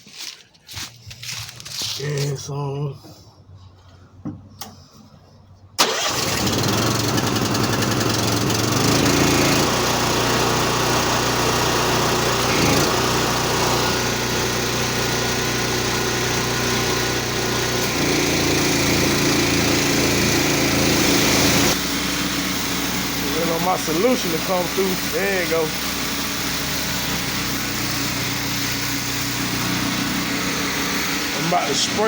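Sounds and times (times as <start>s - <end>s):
pressure washer running: 5.8s - 32.0s.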